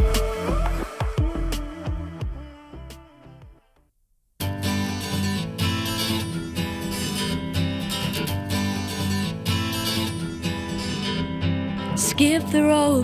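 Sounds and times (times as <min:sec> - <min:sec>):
acoustic song instrumental: 0:00.0 - 0:03.8, 0:04.4 - 0:13.0.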